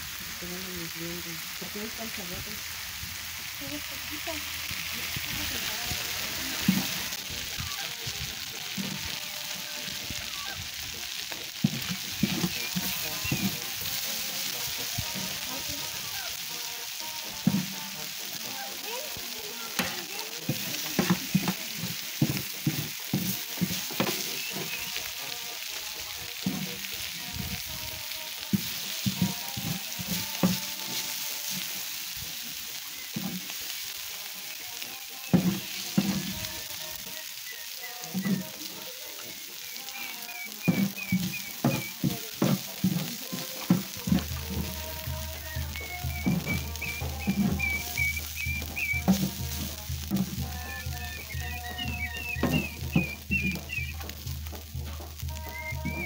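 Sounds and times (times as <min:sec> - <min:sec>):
meat and vegetables sizzling: 0:00.0 - 0:56.0.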